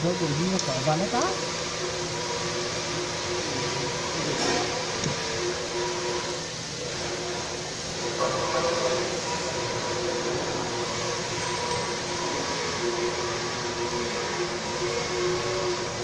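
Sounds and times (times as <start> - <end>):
industrial machinery noise: 0.0 - 16.0.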